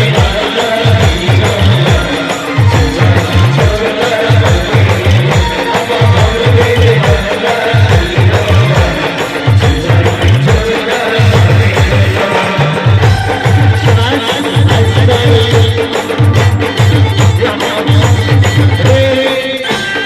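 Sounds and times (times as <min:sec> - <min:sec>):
bass drum beat: 0:00.0 - 0:19.6
dance music band: 0:00.0 - 0:20.0.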